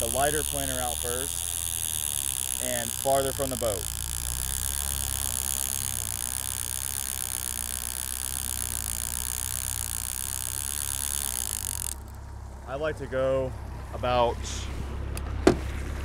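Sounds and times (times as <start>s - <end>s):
boat engine drone: 0.0s - 16.0s.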